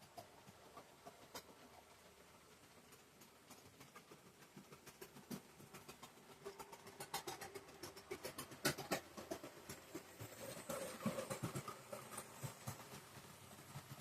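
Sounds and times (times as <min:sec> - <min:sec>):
model train wheels clicking: 0:00.0 - 0:14.0.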